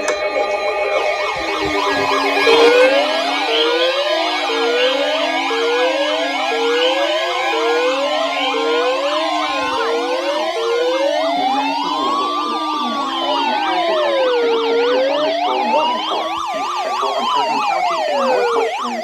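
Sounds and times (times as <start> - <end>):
siren fast yelp: 0.0 - 19.0
siren rising whoops: 0.0 - 19.0
siren slow wail: 0.0 - 19.0.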